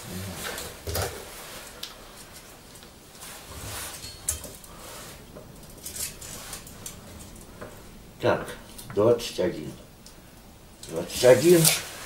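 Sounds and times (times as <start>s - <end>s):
rustles and scrapes of handling: 0.0s - 9.0s, 10.9s - 12.0s.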